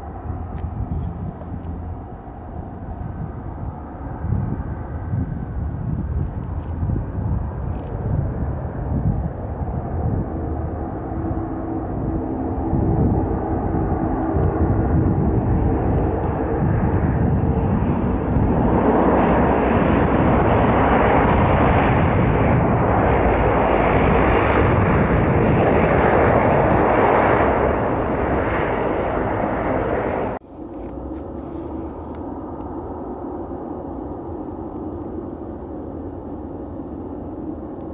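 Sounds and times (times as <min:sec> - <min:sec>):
faint aircraft hum: 0:00.0 - 0:37.9
turboprop engines droning: 0:00.0 - 0:37.9.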